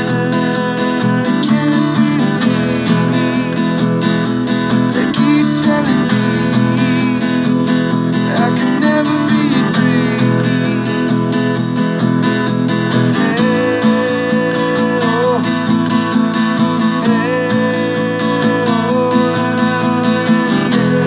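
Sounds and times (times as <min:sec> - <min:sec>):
man singing: 0:00.0 - 0:12.0, 0:12.6 - 0:21.0
acoustic guitar strumming: 0:00.0 - 0:21.0.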